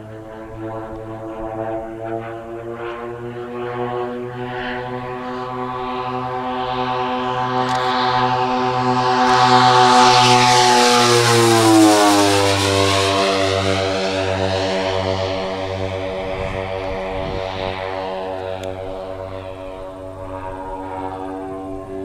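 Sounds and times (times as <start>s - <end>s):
model plane engines droning: 0.0s - 22.0s.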